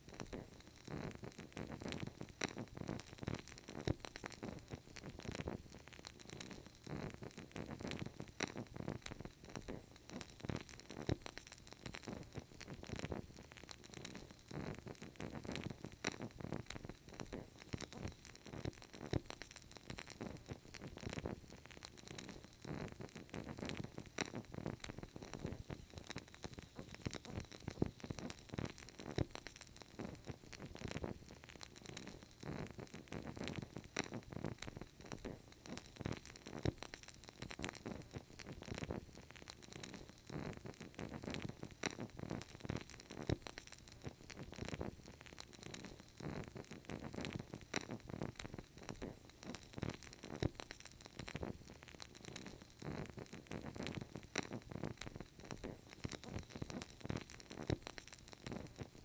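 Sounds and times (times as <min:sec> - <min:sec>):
candle crackling and popping: 0:00.0 - 0:59.0
soft hiss: 0:00.0 - 0:59.0.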